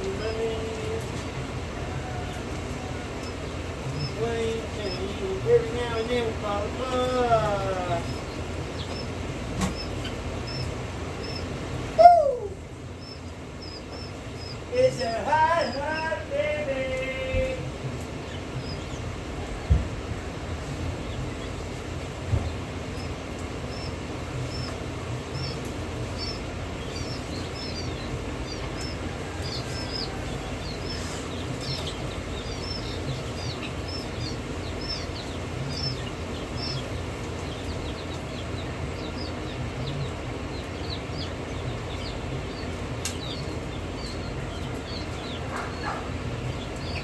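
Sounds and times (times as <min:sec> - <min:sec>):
low background rumble: 0:00.0 - 0:47.0
small birds chirping: 0:00.0 - 0:47.0.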